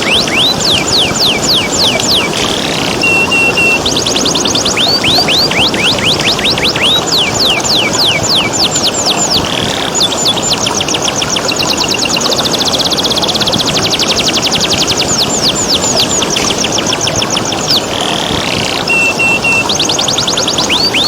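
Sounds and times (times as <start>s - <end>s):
canary singing: 0.0s - 21.0s
running water hissing: 0.0s - 21.0s.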